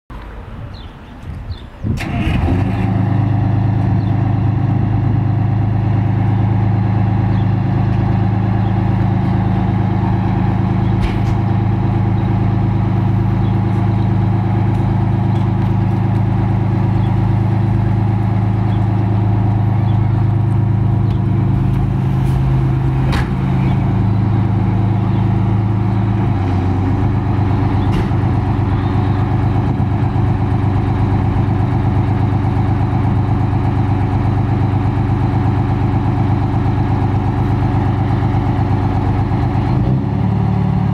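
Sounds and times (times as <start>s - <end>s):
diesel engine idling: 0.5s - 40.9s.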